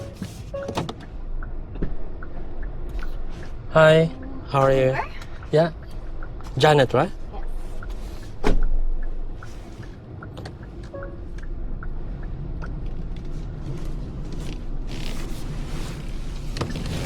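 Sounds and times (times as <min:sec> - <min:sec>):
car engine and tyres rumble: 0:00.0 - 0:17.0.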